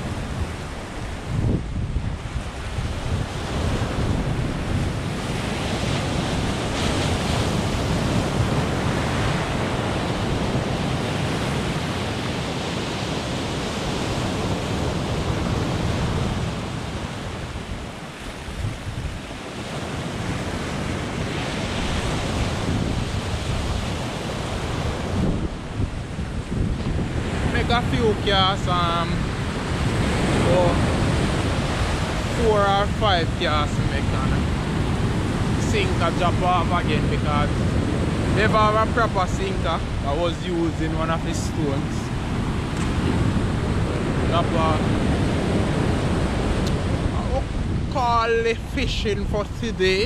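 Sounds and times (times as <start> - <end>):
surf washing up pebble beach: 0.0 - 50.0
wind on microphone: 0.0 - 50.0.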